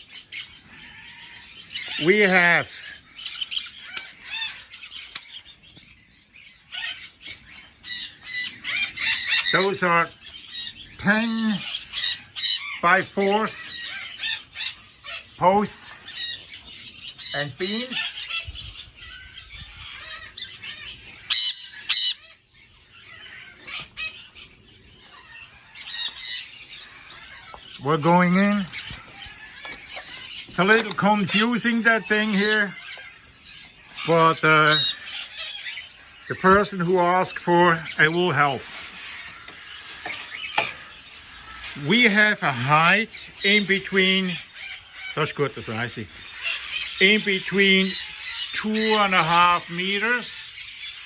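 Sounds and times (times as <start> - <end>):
cockatiels chirping and squawking: 0.0 - 51.0.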